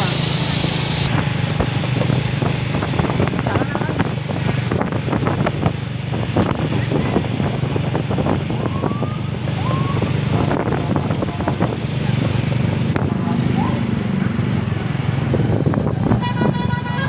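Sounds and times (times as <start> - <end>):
vehicle engine idling: 0.0 - 17.0
wind buffeting microphone: 1.0 - 17.0.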